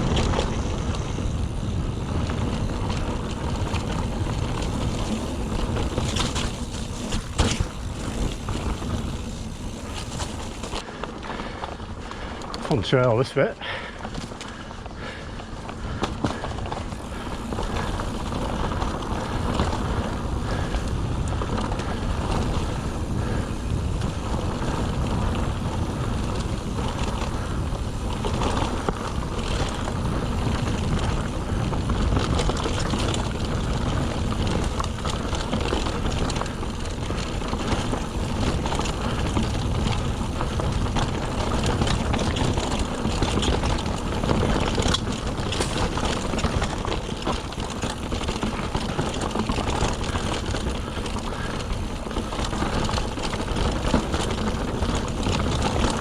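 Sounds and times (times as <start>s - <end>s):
wind rushing on microphone: 0.0s - 13.2s, 14.0s - 56.0s
bike rattling over rocks: 0.0s - 56.0s
bike tyre noise: 0.0s - 56.0s.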